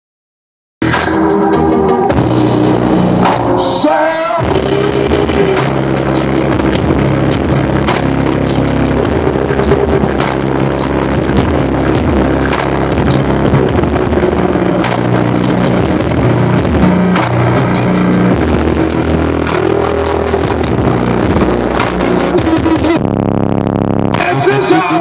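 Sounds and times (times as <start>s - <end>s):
bass-heavy music on car stereo: 0.8s - 25.0s
rising tone: 0.8s - 25.0s.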